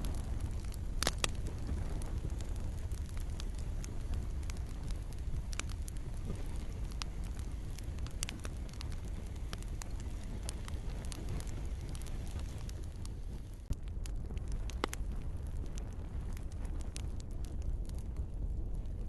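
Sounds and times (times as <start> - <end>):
campfire crackling: 0.0 - 19.0
soft rain hiss: 0.0 - 19.0.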